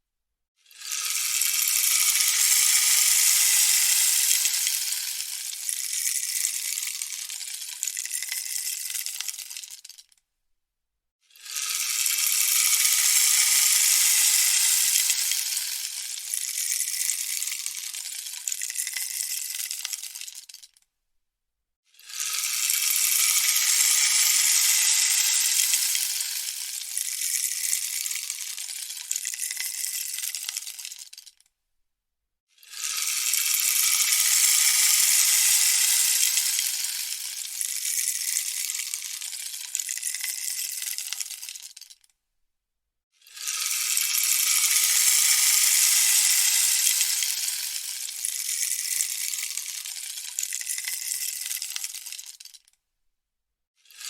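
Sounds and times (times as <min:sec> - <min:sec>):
rainstick rattling: 0:00.8 - 0:10.2, 0:11.4 - 0:20.8, 0:22.0 - 0:31.5, 0:32.7 - 0:42.1, 0:43.4 - 0:52.8.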